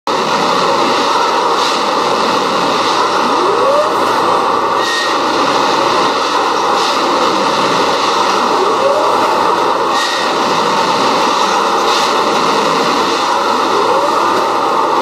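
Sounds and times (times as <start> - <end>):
rising machine whine: 0.1 - 15.0.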